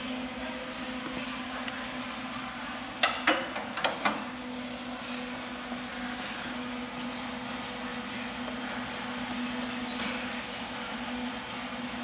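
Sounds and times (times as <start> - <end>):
furnace electrical hum: 0.0 - 12.0.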